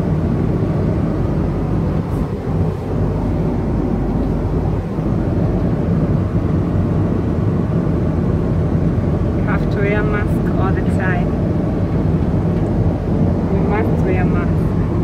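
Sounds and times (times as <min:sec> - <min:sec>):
airliner cabin rumble and hiss: 0:00.0 - 0:15.0.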